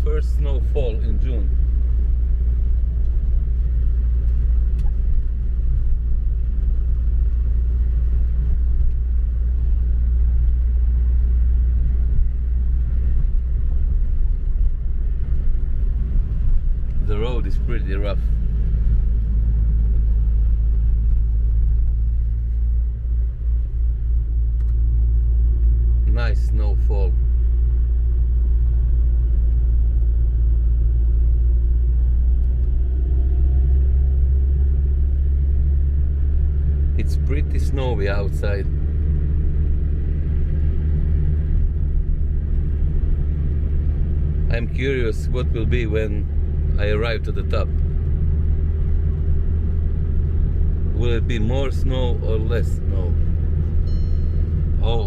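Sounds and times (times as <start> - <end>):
van engine and tyre rumble: 0.0 - 55.0.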